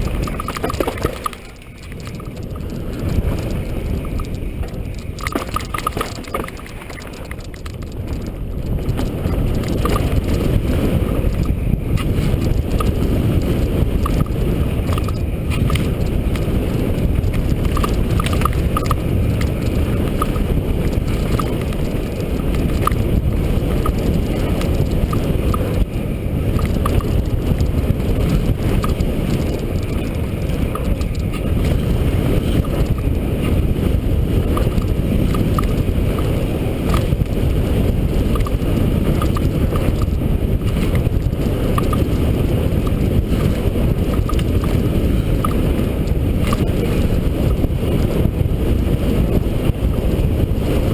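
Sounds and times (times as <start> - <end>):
bike clicks and rattles: 0.0 - 50.9
tyre and trail noise: 0.0 - 50.9
wind rushing over microphone: 0.0 - 50.9.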